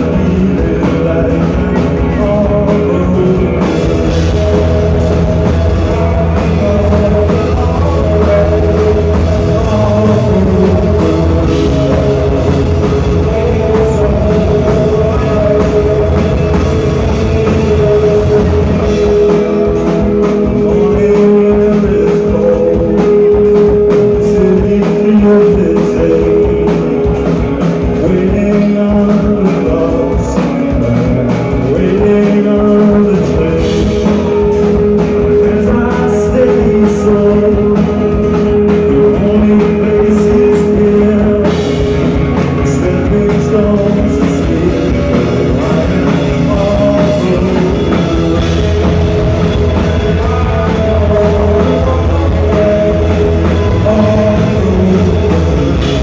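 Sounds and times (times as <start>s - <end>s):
bass guitar: 0.0s - 56.0s
drum kit: 0.0s - 56.0s
electric guitars: 0.0s - 56.0s
person singing lead vocals: 0.0s - 56.0s.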